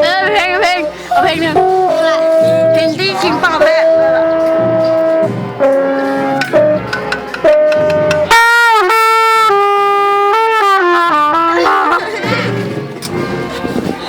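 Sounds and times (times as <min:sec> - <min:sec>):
solo brass instrument melody: 0:00.0 - 0:13.9.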